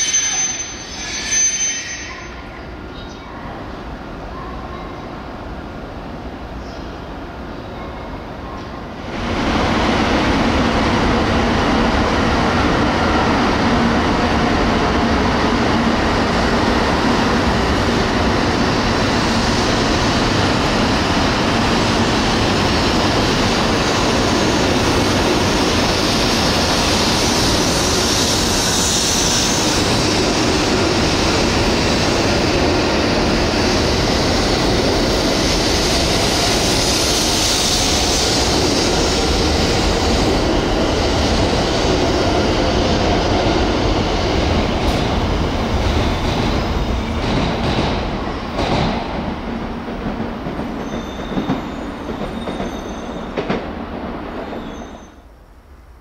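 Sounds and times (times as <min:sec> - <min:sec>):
train wheels rumbling: 0:08.7 - 0:55.1.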